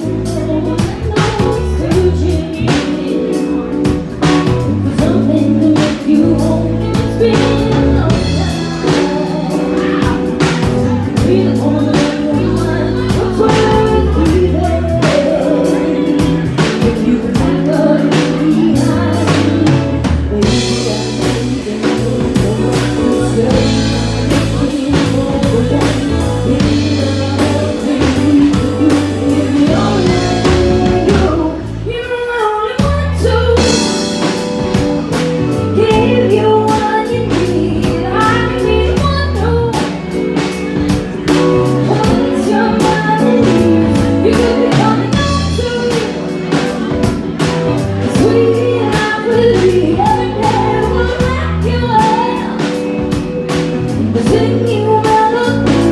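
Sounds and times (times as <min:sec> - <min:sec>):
drum kit: 0:00.0 - 0:55.9
guitar: 0:00.0 - 0:55.9
person singing: 0:00.0 - 0:55.9.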